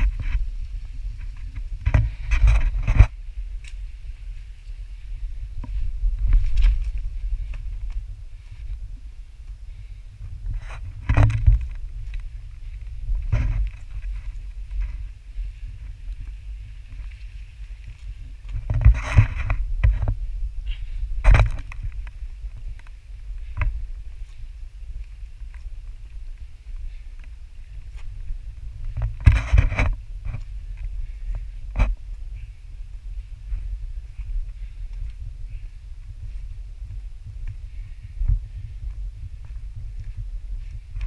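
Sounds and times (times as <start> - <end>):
rustling through brush: 0.0 - 41.0
wind rumble on microphone: 0.0 - 41.0.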